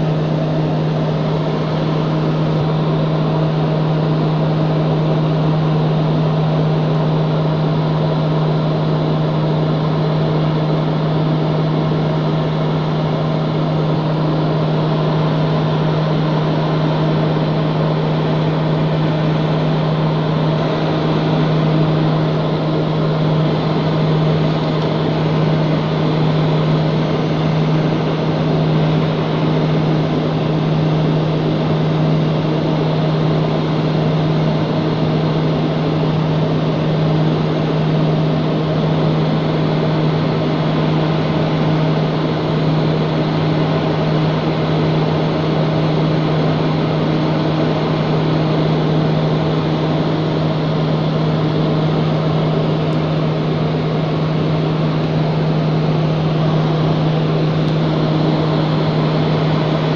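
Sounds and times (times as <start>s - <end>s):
aeroplane cabin engine drone: 0.0s - 59.9s.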